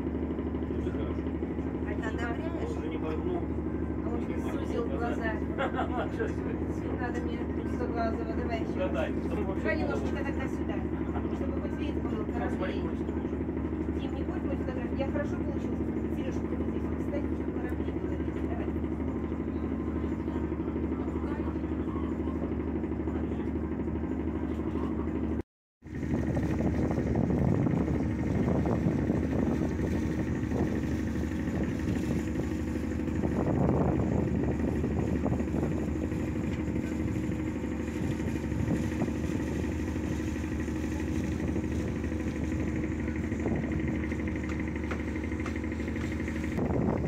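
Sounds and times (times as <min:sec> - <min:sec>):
ship diesel engine droning: 0:00.0 - 0:47.0.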